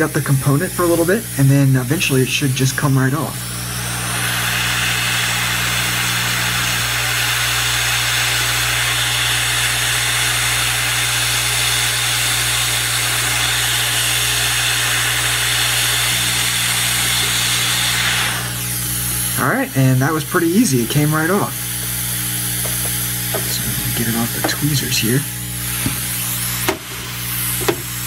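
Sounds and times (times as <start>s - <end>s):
hot air gun blowing: 0.0s - 28.0s.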